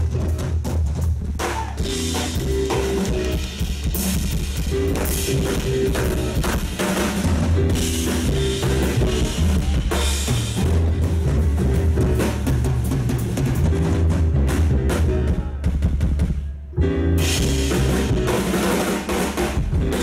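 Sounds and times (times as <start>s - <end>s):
upright bass line: 0.0s - 16.2s, 16.8s - 20.0s
drums and cymbals: 0.0s - 20.0s.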